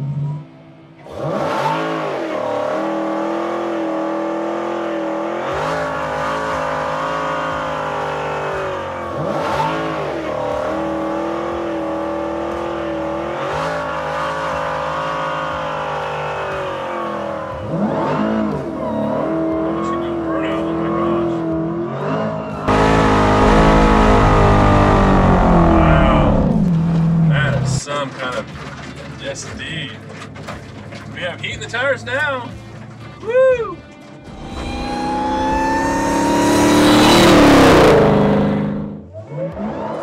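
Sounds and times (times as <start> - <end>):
car engine revving: 0.0 - 31.5, 34.2 - 40.0.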